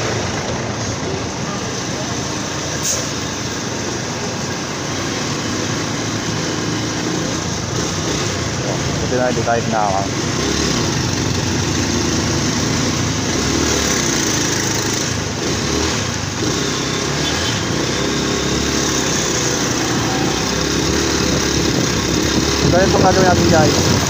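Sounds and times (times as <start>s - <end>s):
motorcycle engine revving: 0.0s - 24.0s
road and wind noise: 0.0s - 24.0s.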